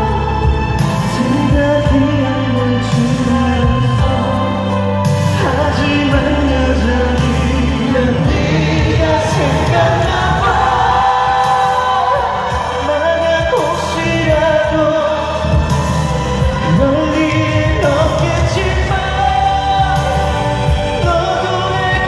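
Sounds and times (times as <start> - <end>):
band with steady bass: 0.0 - 22.0
man singing: 0.0 - 22.0.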